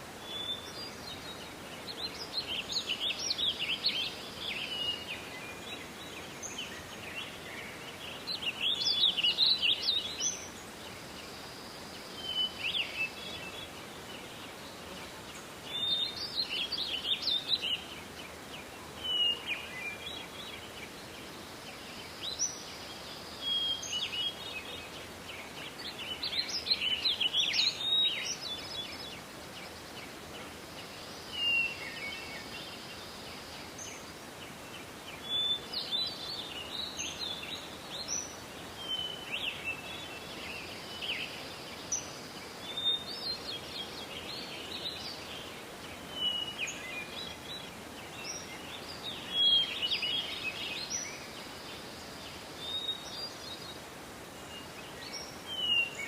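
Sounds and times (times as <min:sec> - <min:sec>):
soft forest ambience hiss: 0:00.0 - 0:56.0
songbirds chirping: 0:00.0 - 0:56.0.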